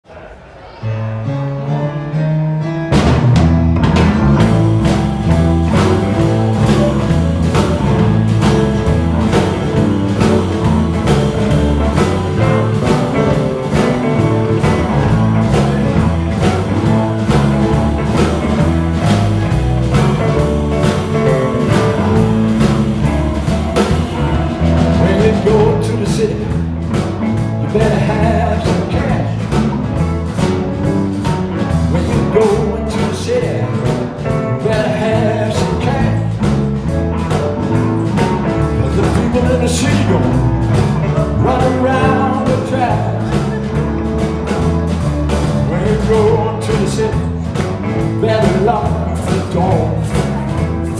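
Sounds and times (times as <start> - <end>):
electric guitars: 1.5 - 50.9
repeating bass line: 2.6 - 50.9
steady drum beat: 2.9 - 50.9.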